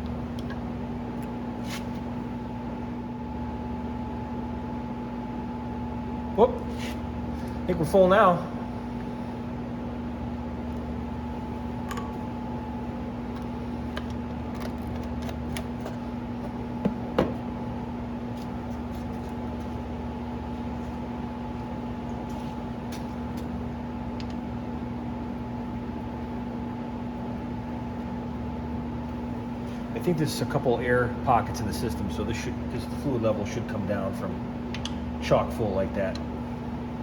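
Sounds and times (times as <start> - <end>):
machine hum with low rumble: 0.0 - 37.0.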